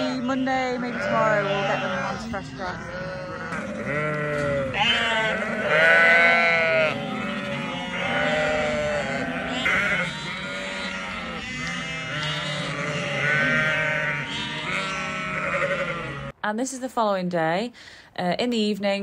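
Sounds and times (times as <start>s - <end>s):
sheep and lambs bleating: 0.0s - 16.4s.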